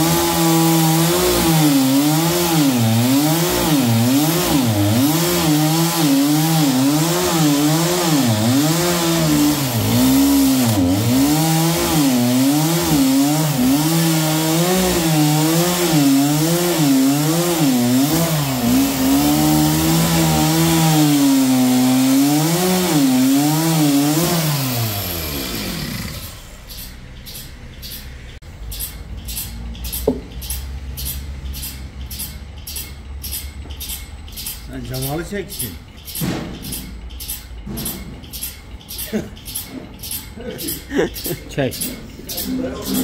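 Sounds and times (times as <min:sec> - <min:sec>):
power saw cutting wood: 0:00.0 - 0:43.0.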